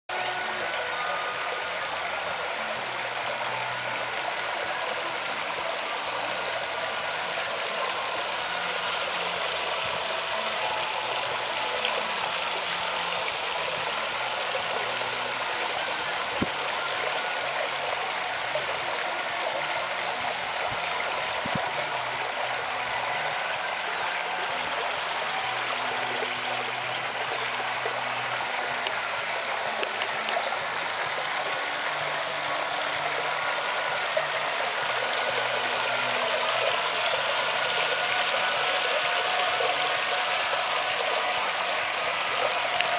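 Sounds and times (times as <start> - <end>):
water splashing in pool: 0.1 - 42.9.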